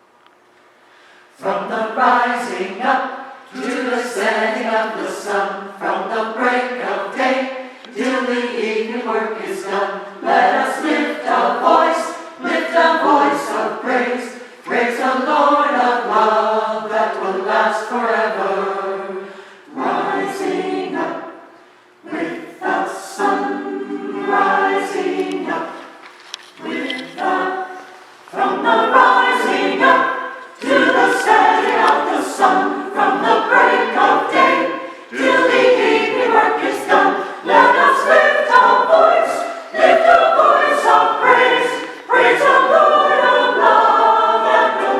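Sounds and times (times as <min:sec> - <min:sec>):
choir singing: 0:01.4 - 0:44.9.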